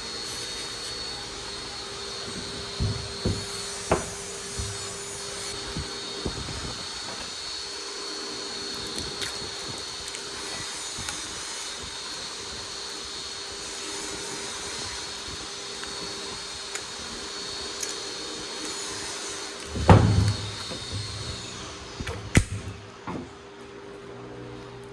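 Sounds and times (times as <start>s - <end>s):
mechanical hum and hiss: 0.0s - 24.9s.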